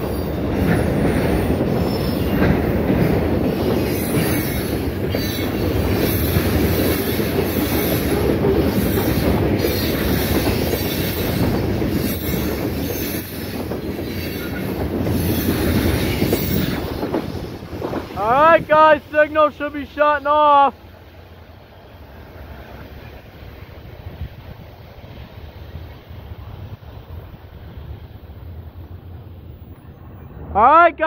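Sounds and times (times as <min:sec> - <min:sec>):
train wheels rolling on rails: 0:00.0 - 0:31.0.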